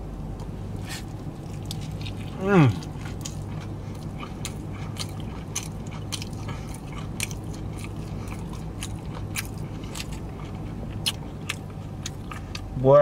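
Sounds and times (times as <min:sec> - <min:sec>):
person chewing close to microphone: 0:00.4 - 0:12.8.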